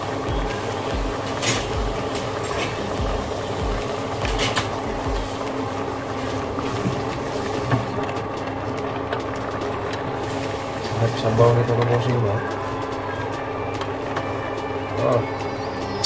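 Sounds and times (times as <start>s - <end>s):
utensil stirring simmering sauce: 0.0s - 14.4s
steady hum: 0.0s - 16.0s.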